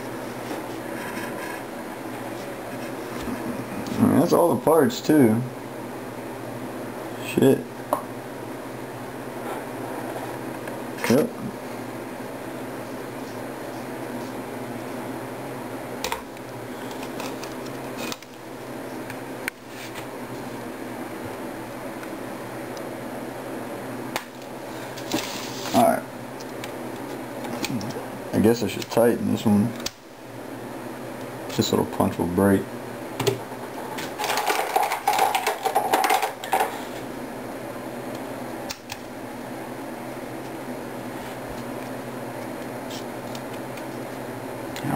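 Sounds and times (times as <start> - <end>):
low background hum: 0.0 - 44.9.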